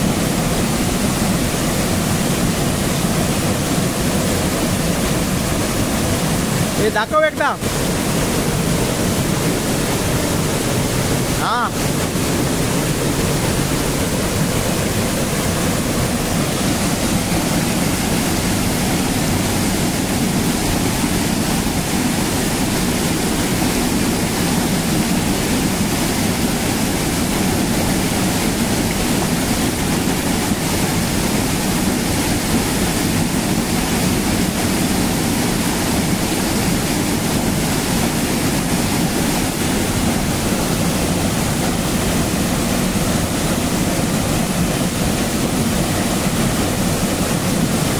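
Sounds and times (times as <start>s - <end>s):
waterfall crashing into pool: 0.0s - 47.9s.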